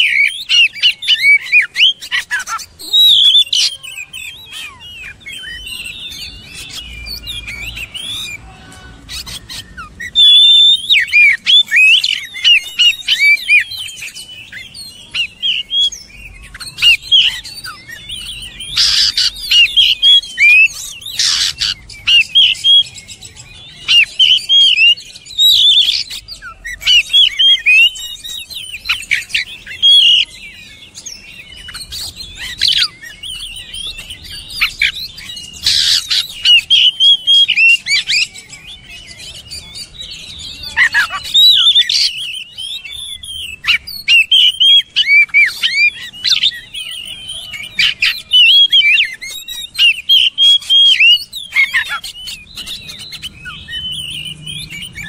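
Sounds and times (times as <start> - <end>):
bird singing whistled phrases: 0.0 - 55.0.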